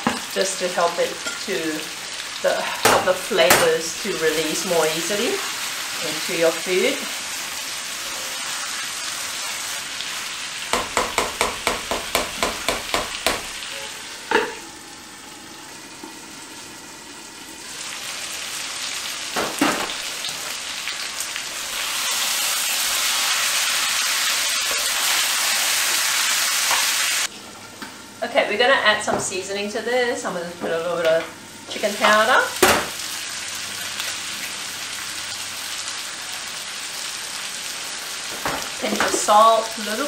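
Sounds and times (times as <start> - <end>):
food sizzling in a wok: 0.0 - 40.0.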